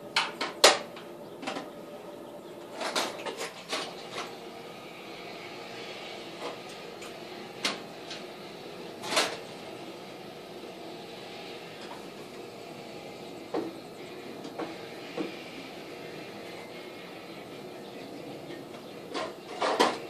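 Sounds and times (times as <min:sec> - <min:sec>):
patio screen rolling: 0:00.0 - 0:20.0.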